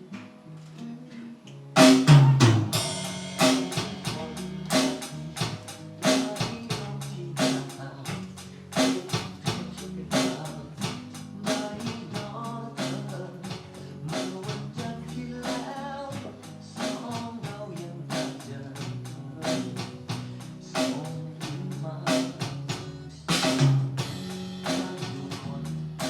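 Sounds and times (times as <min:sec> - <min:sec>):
drum kit beat: 0:01.8 - 0:26.0.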